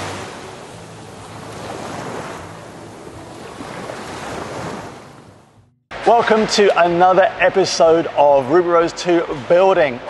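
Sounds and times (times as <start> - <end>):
rushing water and wind effect: 0.0 - 10.0.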